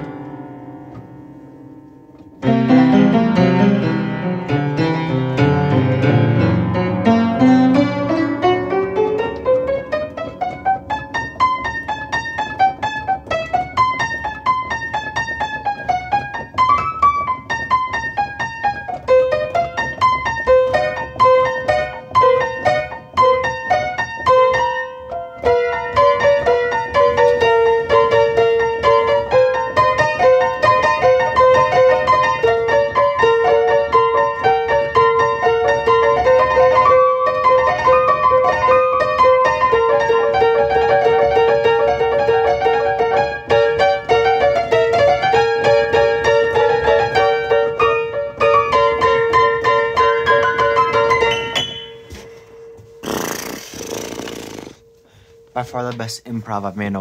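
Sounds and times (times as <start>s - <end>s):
solo piano: 0.0s - 56.3s.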